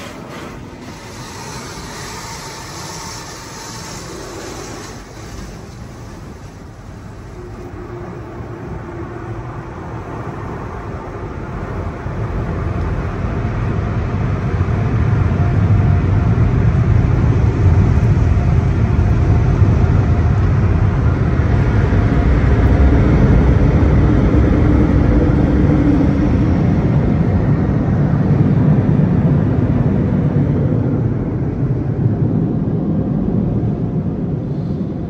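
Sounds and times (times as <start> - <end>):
car wash blower dryers: 0.0 - 35.0.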